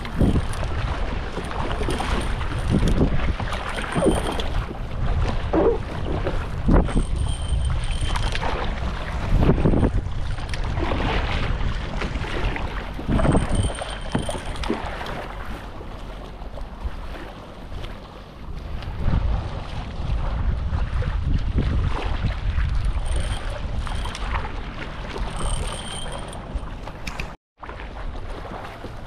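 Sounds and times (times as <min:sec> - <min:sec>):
paddle strokes splashing water: 0:00.0 - 0:29.0
wind rumbling on microphone: 0:00.0 - 0:29.0.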